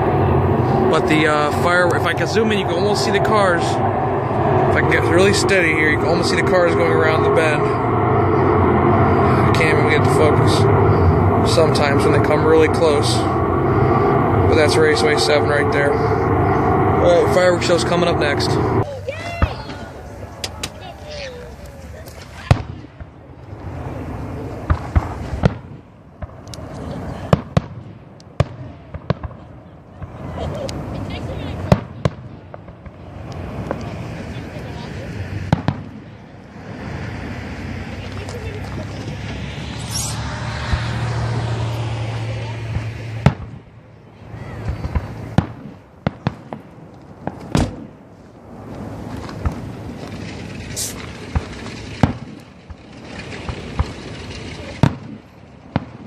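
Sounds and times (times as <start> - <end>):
fireworks booming: 0.0 - 20.9, 22.3 - 43.8, 44.4 - 56.0
continuous rumbling noise: 0.0 - 56.0.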